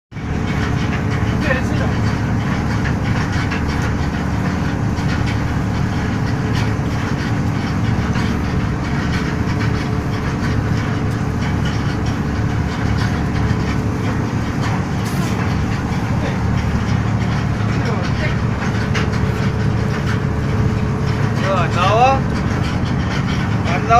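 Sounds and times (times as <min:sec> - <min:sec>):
boat engine drone: 0:00.0 - 0:23.9
machinery rattling clatter: 0:00.1 - 0:23.9.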